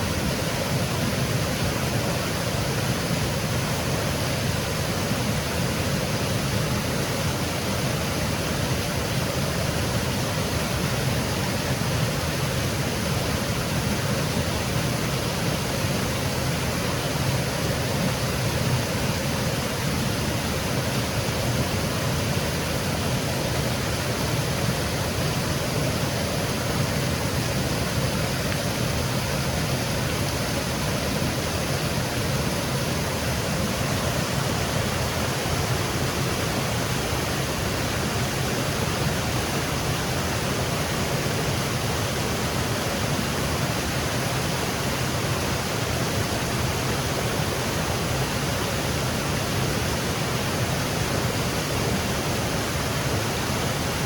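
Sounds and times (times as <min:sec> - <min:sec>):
waterfall over rocks: 0:00.0 - 0:54.0.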